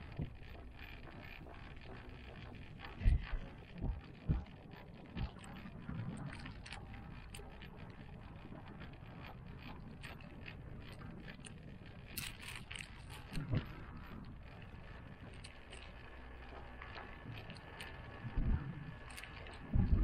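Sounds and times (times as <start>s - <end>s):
faint clicks: 0.0s - 20.0s.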